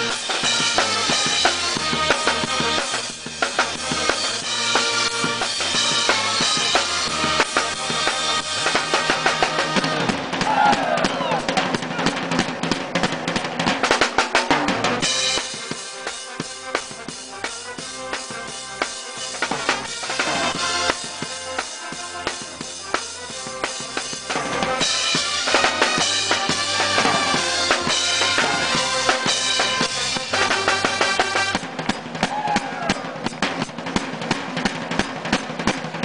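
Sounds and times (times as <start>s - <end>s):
drums playing steady rhythm: 0.0s - 36.0s
pitched percussion instruments: 0.0s - 36.0s.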